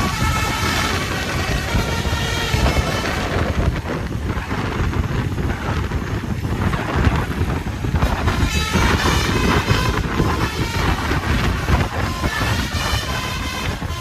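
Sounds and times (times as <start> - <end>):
bus engine rumble: 0.0 - 14.0
wind noise on microphone: 0.0 - 14.0.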